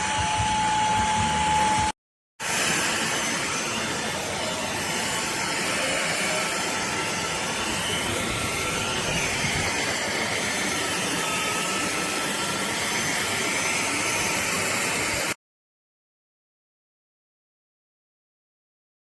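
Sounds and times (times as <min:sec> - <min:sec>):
stick vacuum running: 0:00.0 - 0:15.4.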